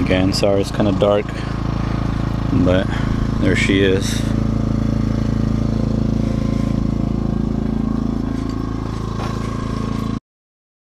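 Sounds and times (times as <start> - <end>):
engine running with low hum: 0.0 - 10.2.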